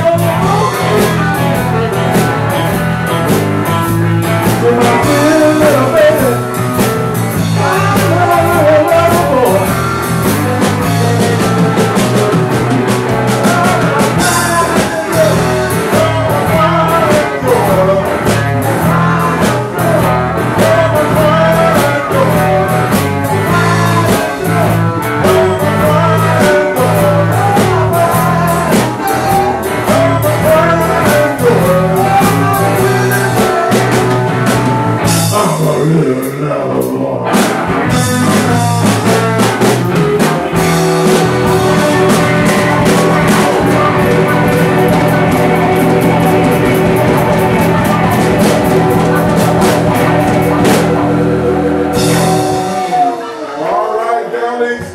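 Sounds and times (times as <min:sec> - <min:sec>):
drums and cymbals: 0:00.0 - 0:53.6
blues band playing: 0:00.0 - 0:54.9.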